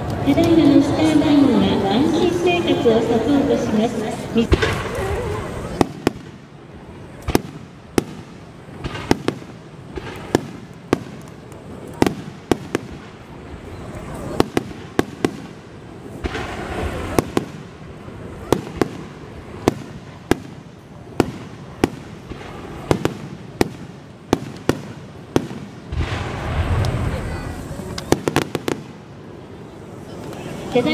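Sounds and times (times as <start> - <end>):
fireworks bursting: 0.0 - 30.9.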